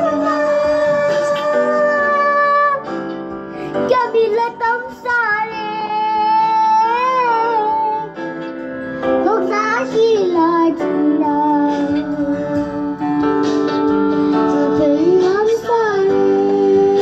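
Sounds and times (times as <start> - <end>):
boy singing into microphone: 0.0 - 3.0, 3.6 - 8.2, 9.2 - 13.2, 14.4 - 17.0
backing music: 0.0 - 17.0.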